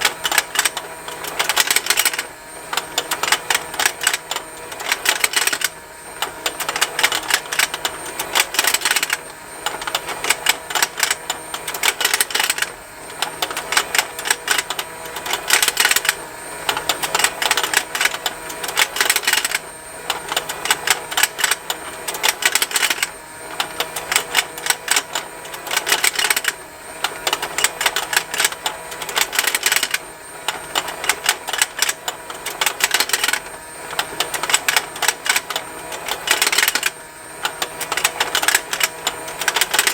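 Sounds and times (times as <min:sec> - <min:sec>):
faint motor hum: 0:00.0 - 0:39.9
rapid plastic ticking: 0:00.0 - 0:39.9.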